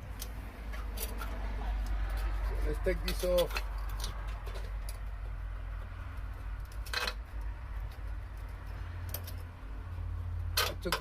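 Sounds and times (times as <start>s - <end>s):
steady low rumble: 0.0s - 10.6s
faint clicks of metal parts: 0.0s - 11.0s.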